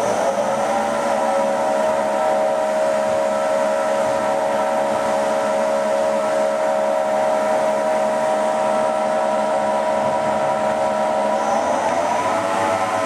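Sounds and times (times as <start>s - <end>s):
machine whine: 0.0s - 13.0s.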